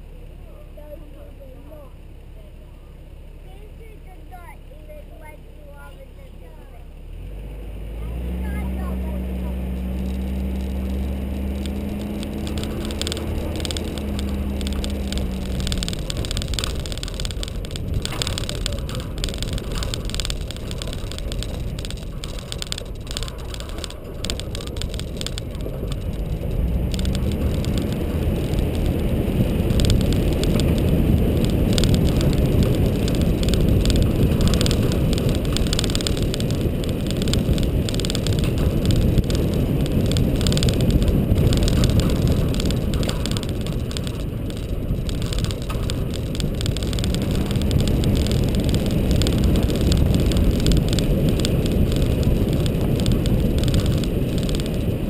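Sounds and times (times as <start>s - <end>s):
car engine pulling: 0.0s - 55.0s
tyre rumble on dirt road: 6.7s - 55.0s.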